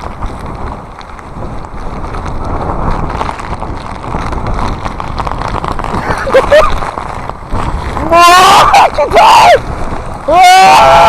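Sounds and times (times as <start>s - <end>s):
rain and spray spattering: 0.0s - 11.0s
wind buffeting microphone: 0.0s - 11.0s.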